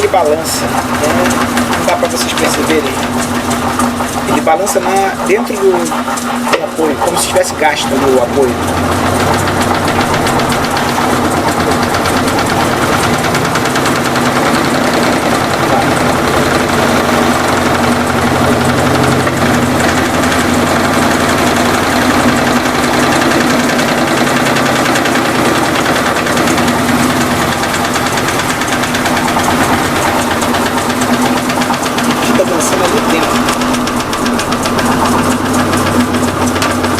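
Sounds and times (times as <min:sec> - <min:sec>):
fast knocking rattle: 0:00.0 - 0:36.9
washing machine spinning hum: 0:00.0 - 0:36.9.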